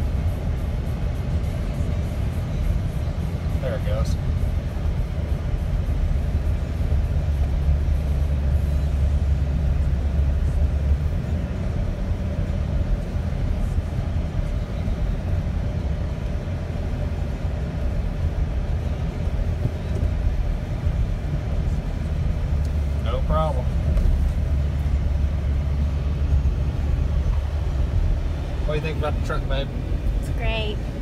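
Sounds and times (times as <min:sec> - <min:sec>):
engine drone: 0:00.0 - 0:31.0
road noise: 0:00.0 - 0:31.0.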